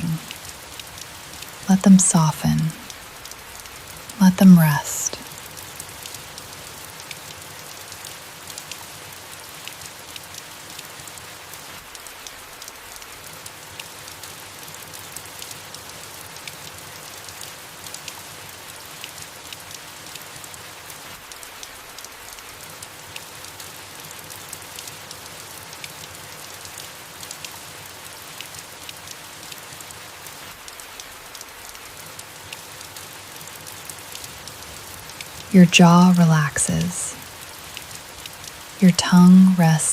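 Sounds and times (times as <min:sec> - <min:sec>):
soft rain falling on leaves: 0:00.0 - 0:39.9.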